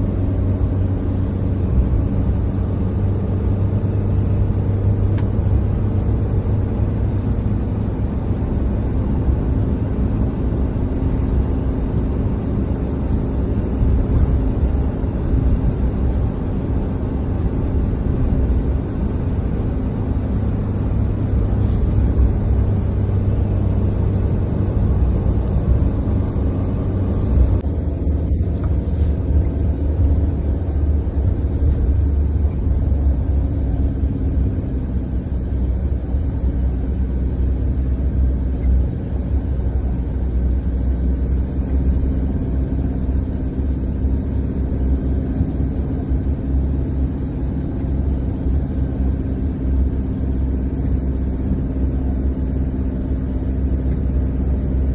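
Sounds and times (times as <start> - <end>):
car interior engine and road rumble: 0.0 - 54.9.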